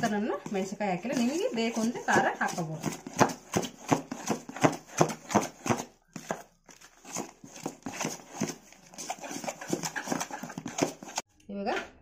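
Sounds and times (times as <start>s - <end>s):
hand slapping batter in bowl: 0.0s - 11.3s.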